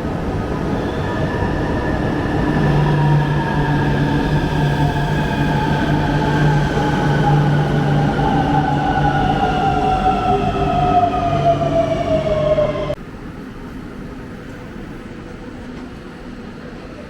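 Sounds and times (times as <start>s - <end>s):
low train rumble: 0.0s - 17.0s.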